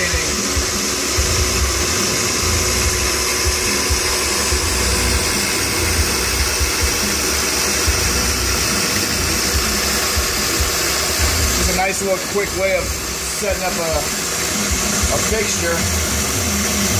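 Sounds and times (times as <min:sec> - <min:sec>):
milling machine cutting with hiss: 0:00.0 - 0:16.9.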